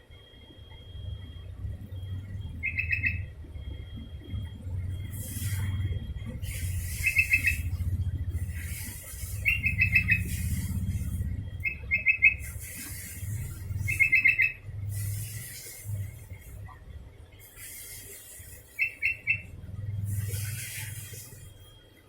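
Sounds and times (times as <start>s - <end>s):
low hum: 0.0s - 21.8s
bulbul singing: 0.2s - 21.7s.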